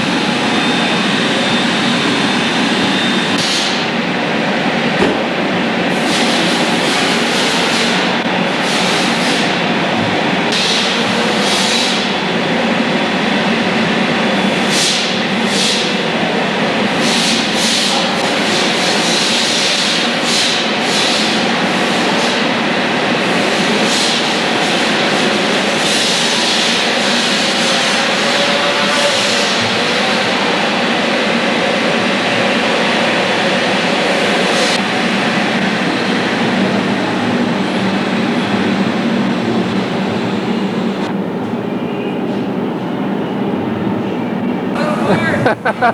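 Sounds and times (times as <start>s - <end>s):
fire truck engine running: 0.0s - 41.3s.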